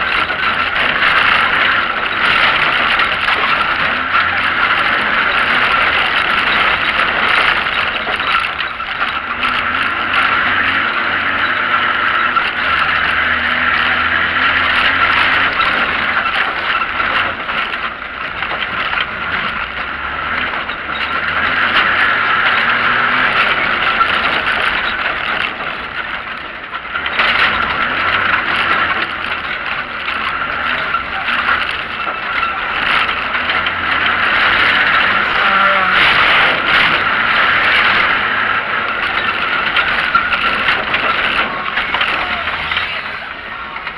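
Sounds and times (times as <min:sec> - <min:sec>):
off-road vehicle engine under load: 0:00.0 - 0:43.9
wind and road noise: 0:00.0 - 0:43.9.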